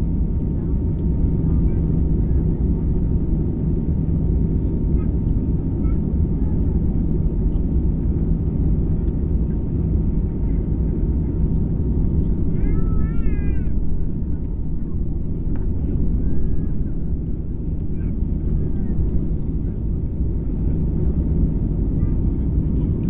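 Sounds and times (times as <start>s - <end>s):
constant hum: 0.0s - 23.0s
engine and airflow rumble: 0.0s - 23.0s.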